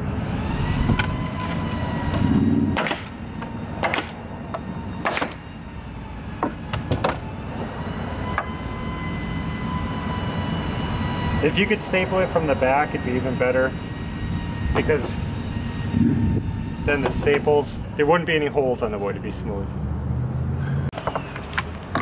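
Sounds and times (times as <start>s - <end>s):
steady humming tone: 0.0s - 19.3s.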